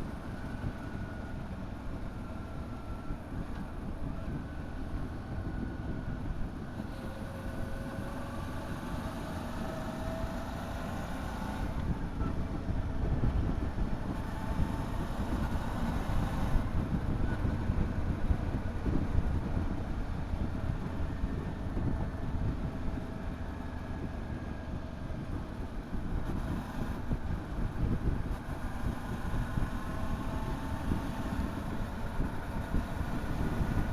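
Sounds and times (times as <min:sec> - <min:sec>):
wind and road noise rumble: 0:00.0 - 0:33.9.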